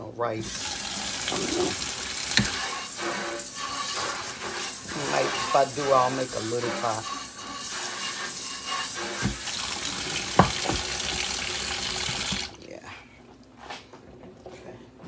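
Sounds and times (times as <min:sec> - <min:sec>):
faucet running into sink: 0:00.4 - 0:12.6.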